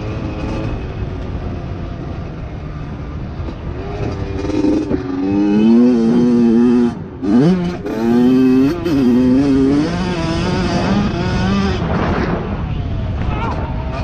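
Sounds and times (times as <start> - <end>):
dirt bike engine revving: 0.0 - 12.6.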